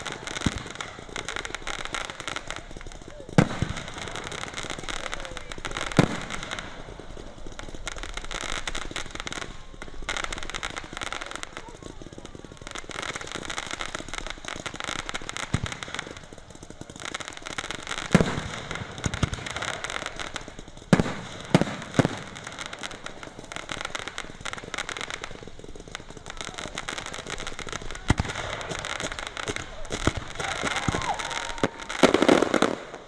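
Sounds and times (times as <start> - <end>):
fireworks bursting bangs: 0.0 - 33.0
fireworks crackle: 0.0 - 33.0.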